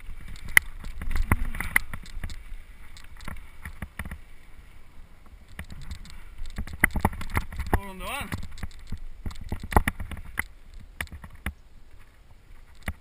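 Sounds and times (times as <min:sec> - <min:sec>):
mountain bike rattling: 0:00.0 - 0:04.4, 0:05.4 - 0:13.0.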